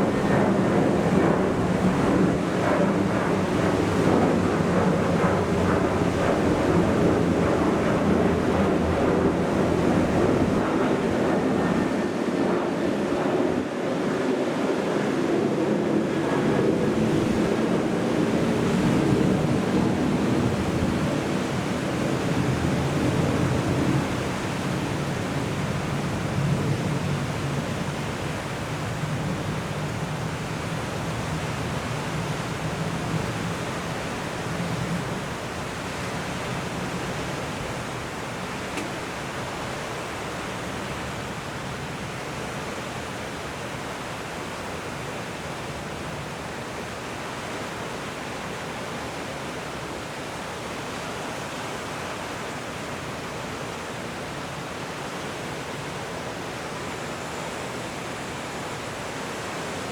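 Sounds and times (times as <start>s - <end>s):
wind and rushing water: 0.0s - 59.9s.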